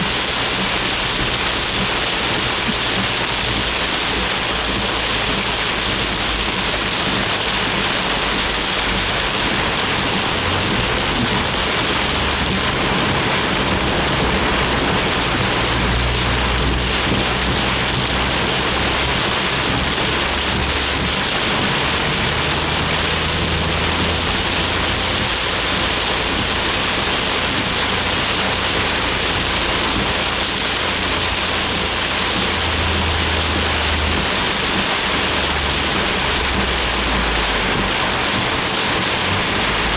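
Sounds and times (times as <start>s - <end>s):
engine and road rumble: 0.0s - 39.9s
heavy rain on car: 0.0s - 39.9s.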